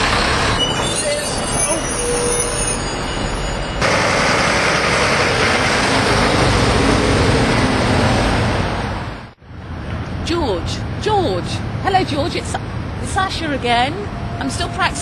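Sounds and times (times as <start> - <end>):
bus engine rumbling: 0.0 - 15.0
street traffic: 0.0 - 15.0.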